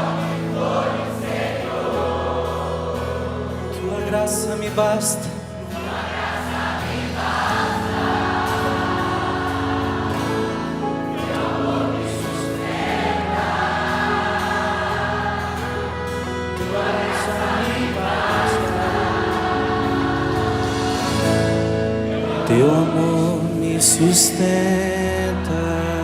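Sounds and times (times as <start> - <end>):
group singing worship song: 0.0 - 4.5, 5.3 - 25.7
instrumental accompaniment: 0.0 - 24.8.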